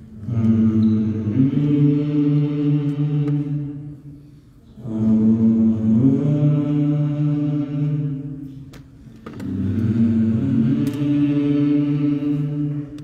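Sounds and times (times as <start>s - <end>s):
voices singing slow chant: 0.0s - 13.0s.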